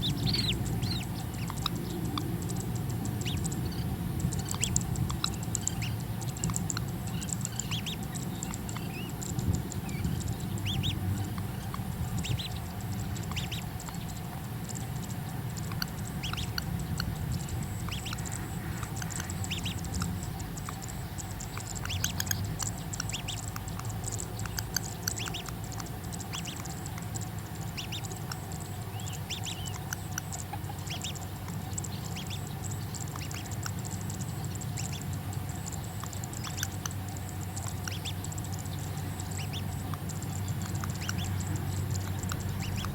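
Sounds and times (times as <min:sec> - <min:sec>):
bird chirping: 0:00.0 - 0:42.9
steady low hum: 0:00.0 - 0:42.9.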